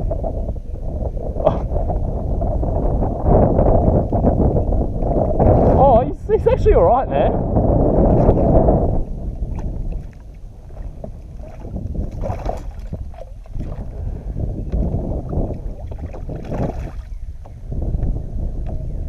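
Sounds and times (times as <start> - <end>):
water against kayak: 0.0 - 6.8, 7.4 - 18.8
wind rumbling on microphone: 0.0 - 19.0.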